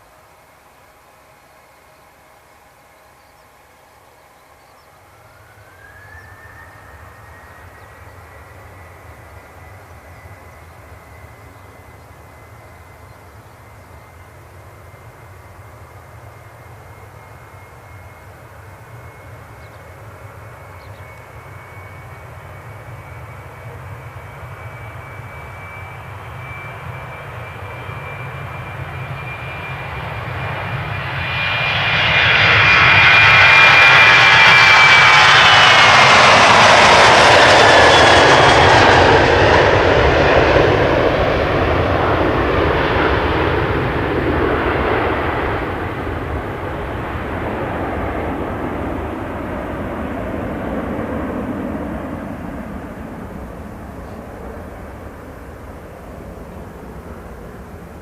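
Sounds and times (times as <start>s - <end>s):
jet engines spooling up: 4.9s - 58.0s.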